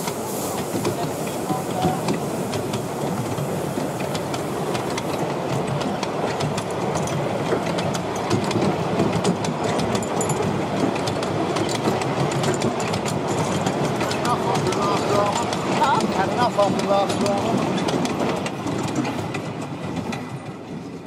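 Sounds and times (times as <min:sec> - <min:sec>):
steel wheels rumbling on rails: 0:00.0 - 0:21.0
wheels clicking over rail joints: 0:00.0 - 0:21.0.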